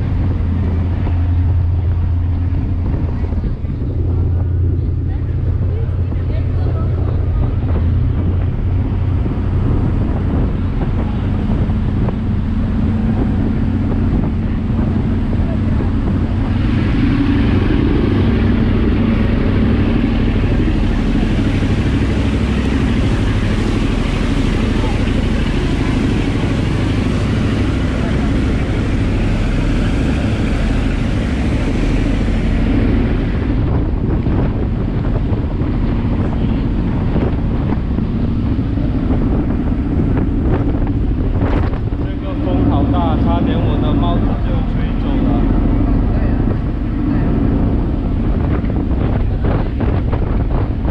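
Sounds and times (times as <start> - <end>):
churning wake rushing: 0.0 - 50.9
ferry engine droning: 0.0 - 50.9
wind: 0.0 - 50.9.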